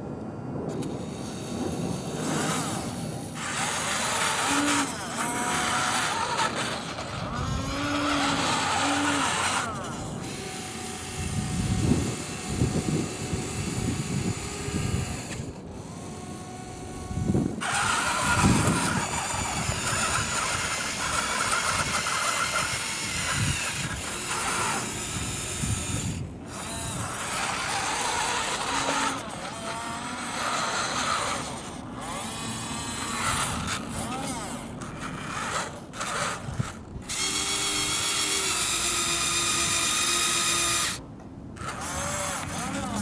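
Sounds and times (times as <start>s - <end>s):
toy electric motors whining: 0.6s - 43.0s.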